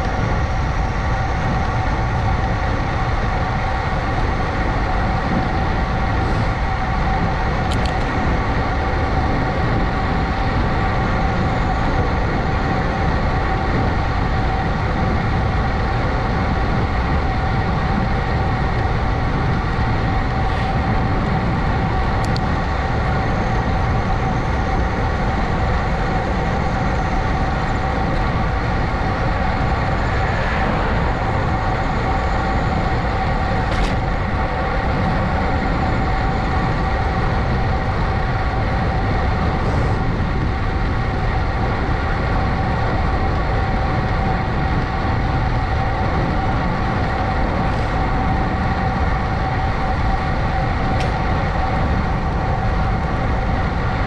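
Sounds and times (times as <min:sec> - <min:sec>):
constant high whine: 0:00.0 - 0:54.0
wind and road rush: 0:00.0 - 0:54.0.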